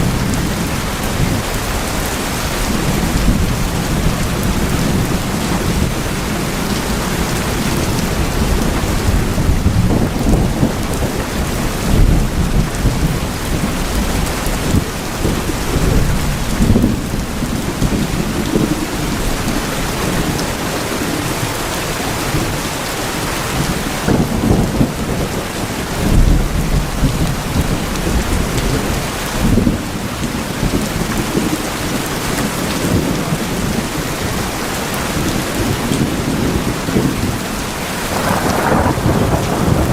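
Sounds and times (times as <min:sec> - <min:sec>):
deep thunder rumbling: 0:00.0 - 0:22.8, 0:23.4 - 0:34.1, 0:35.1 - 0:39.9
heavy rain on metal roof: 0:00.0 - 0:39.9.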